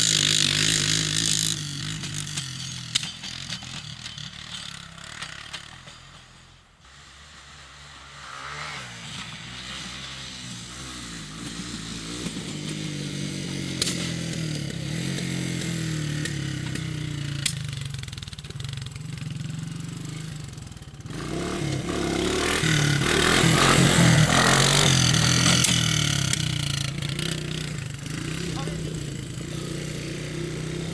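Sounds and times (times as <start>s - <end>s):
small engine running: 0.0s - 30.9s.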